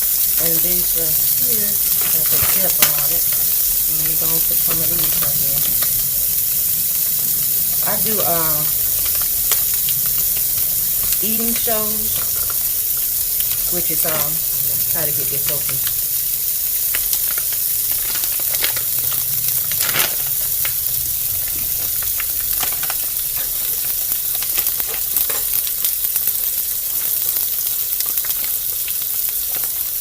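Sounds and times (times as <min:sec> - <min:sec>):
dumplings sizzling in hot oil: 0:00.0 - 0:30.0.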